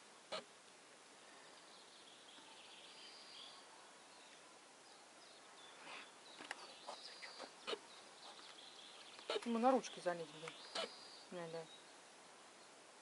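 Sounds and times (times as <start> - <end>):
distant bird chirps: 1.4 - 12.8.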